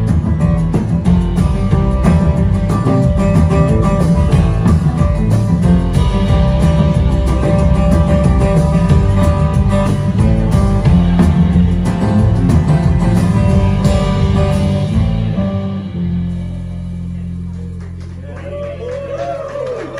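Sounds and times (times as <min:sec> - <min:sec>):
acoustic guitar strumming: 0:00.0 - 0:17.2
drums: 0:00.0 - 0:19.9
upright bass: 0:00.0 - 0:19.9.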